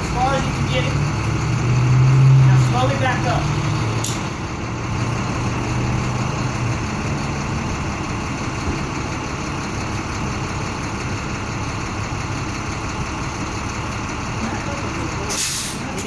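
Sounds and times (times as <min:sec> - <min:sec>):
truck engine running at low revs: 0:00.0 - 0:16.0.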